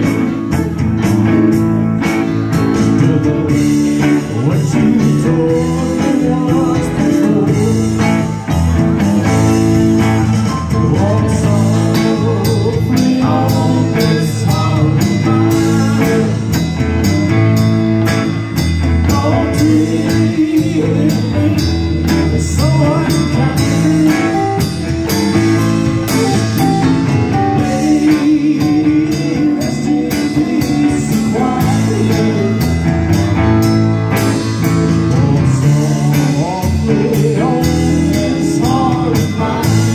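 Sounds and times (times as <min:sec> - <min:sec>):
man singing: 0:00.0 - 0:01.6, 0:02.5 - 0:33.7, 0:34.3 - 0:39.9
bass guitar: 0:00.0 - 0:39.9
drums: 0:00.0 - 0:39.9
electric guitar: 0:00.0 - 0:39.9.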